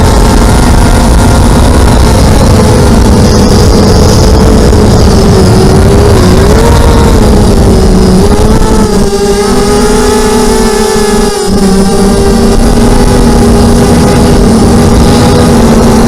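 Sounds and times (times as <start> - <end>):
wind rumble on microphone: 0.0 - 10.2, 11.8 - 16.0
model aircraft motor whine: 0.0 - 16.0.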